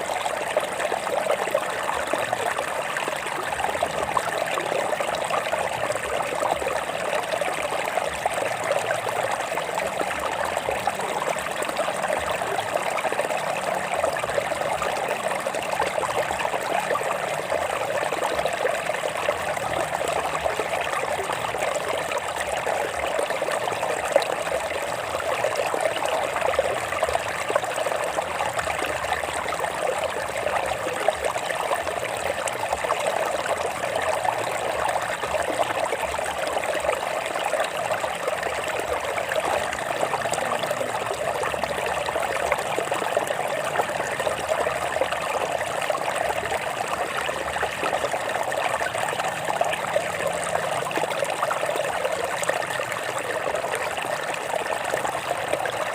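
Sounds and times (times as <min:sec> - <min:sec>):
stream trickling over rocks: 0:00.0 - 0:55.9.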